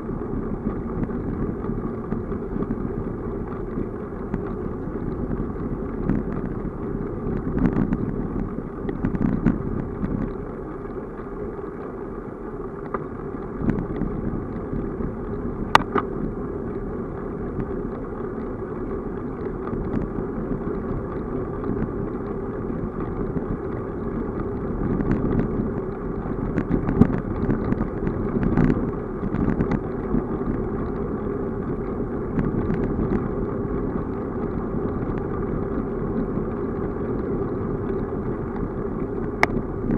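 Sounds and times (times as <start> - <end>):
wind on microphone: 0.0 - 10.7, 13.4 - 39.9
bicycle rattling over bumps: 0.0 - 39.9
bicycle tyre road noise: 0.0 - 39.9.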